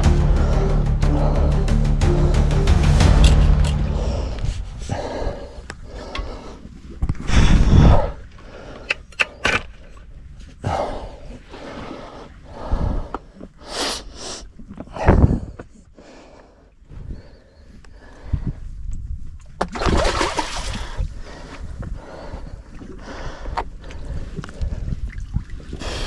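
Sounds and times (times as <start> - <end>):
wind: 2.9 - 26.0.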